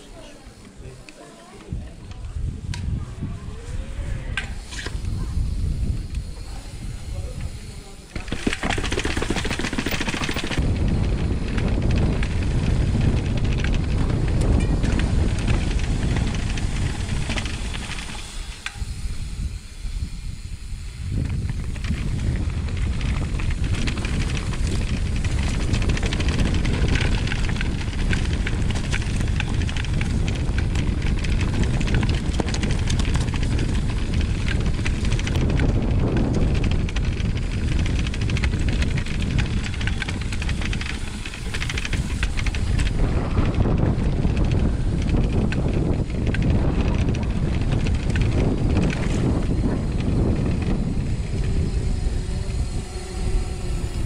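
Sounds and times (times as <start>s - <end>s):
bike clicks and rattles: 0.0s - 54.0s
bike tyres rumbling: 0.0s - 54.0s
wind buffeting microphone: 1.4s - 54.0s.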